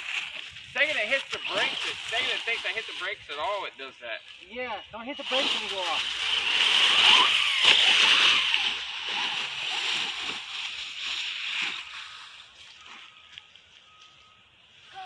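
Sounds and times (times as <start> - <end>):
toy truck tyres crunching leaves: 0.0 - 14.2.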